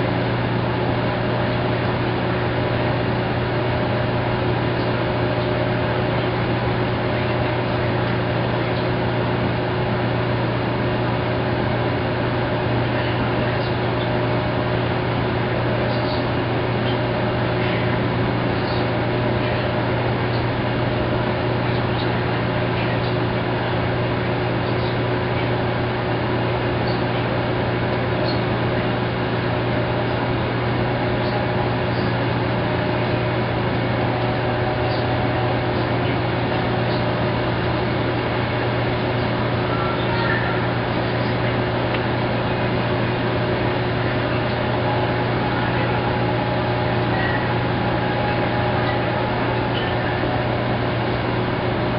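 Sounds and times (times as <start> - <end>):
washing machine motor hum: 0.0 - 51.9.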